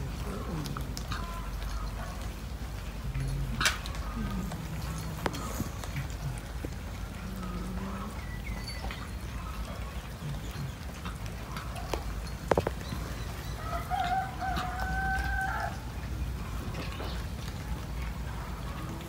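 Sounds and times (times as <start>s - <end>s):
drawn-out animal call: 0.0s - 19.0s.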